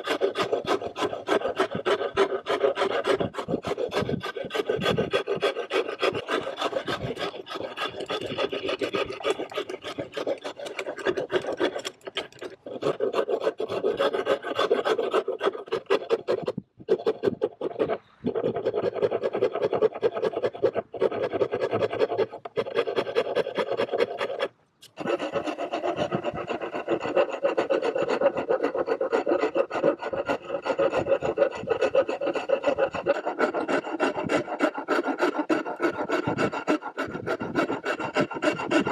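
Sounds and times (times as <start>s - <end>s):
hand file scraping: 0.0s - 38.9s.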